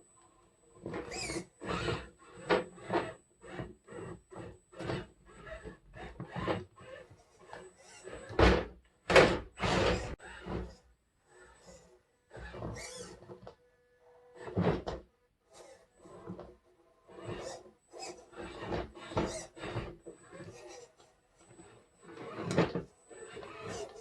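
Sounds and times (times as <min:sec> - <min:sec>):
electric motor and gears whirring: 0:00.2 - 0:24.0.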